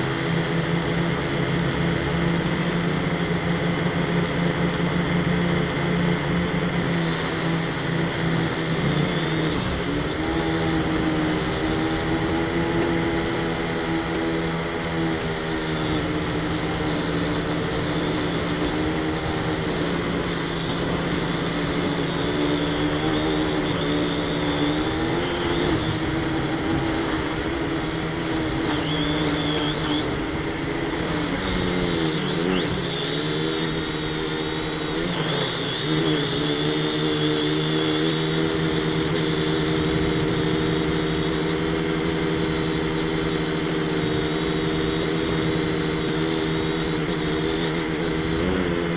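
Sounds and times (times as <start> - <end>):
quadcopter propellers whining: 0.0 - 48.9.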